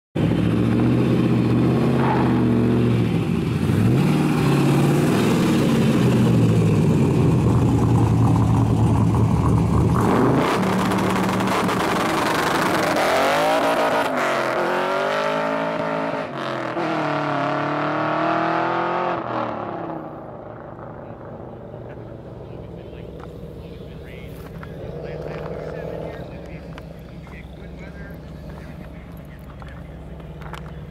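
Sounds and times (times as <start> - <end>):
car engine accelerating: 0.2 - 30.9.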